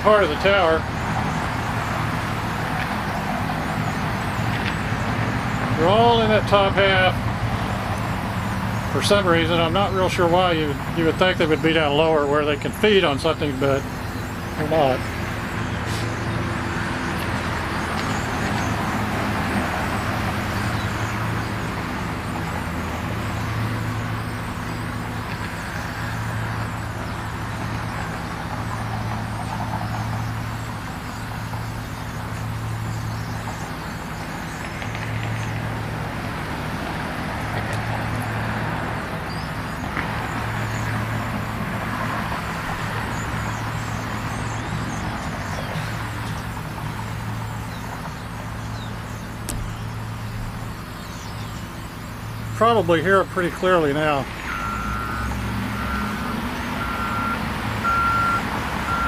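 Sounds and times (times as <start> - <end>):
road traffic passing: 0.0 - 59.0
starlings chattering: 0.0 - 59.0.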